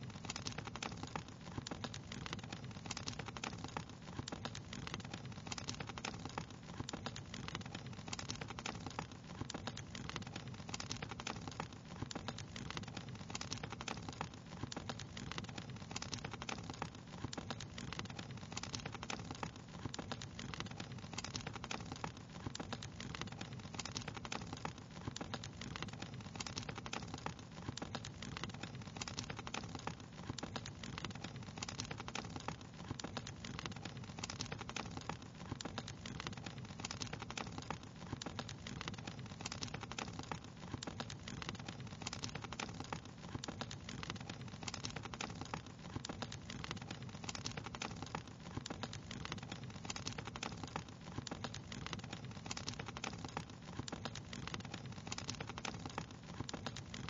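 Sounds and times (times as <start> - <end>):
crackling wood fire: 0.0 - 57.0.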